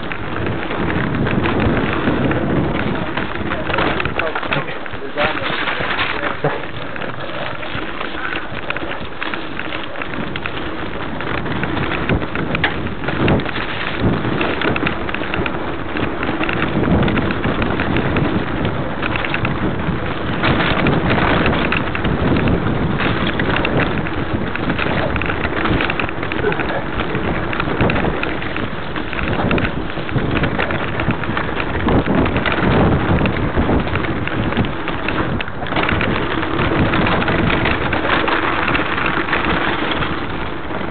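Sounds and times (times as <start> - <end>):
bike knocking and rattling: 0.0 - 40.9
wind and tyres rushing: 0.0 - 40.9.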